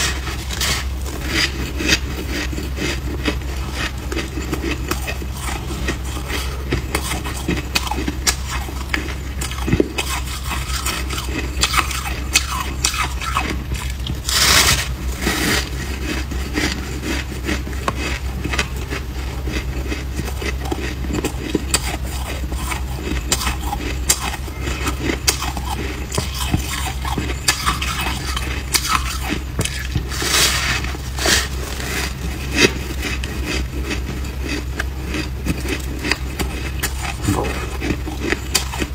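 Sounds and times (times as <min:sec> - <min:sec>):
crunching of chewed frost: 0:00.0 - 0:38.9
low steady hum: 0:00.0 - 0:38.9.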